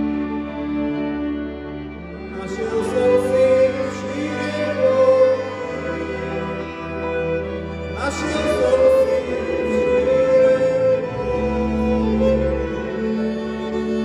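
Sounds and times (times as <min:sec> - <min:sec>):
folk string band playing: 0:00.0 - 0:14.0.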